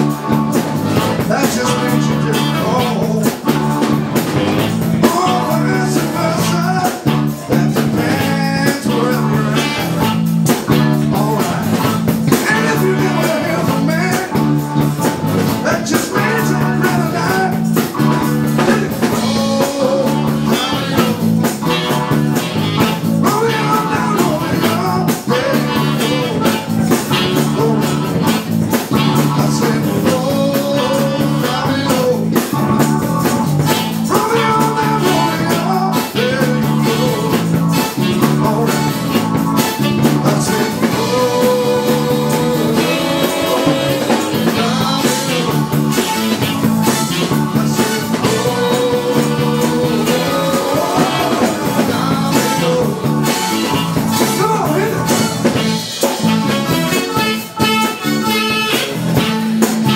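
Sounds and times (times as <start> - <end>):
bass line: 0.0 - 59.9
drum kit: 0.0 - 59.9
electric guitar: 0.0 - 59.9.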